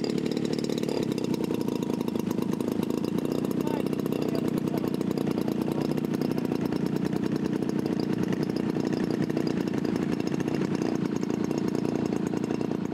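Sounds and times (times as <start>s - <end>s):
model airplane engine idling: 0.0s - 12.9s.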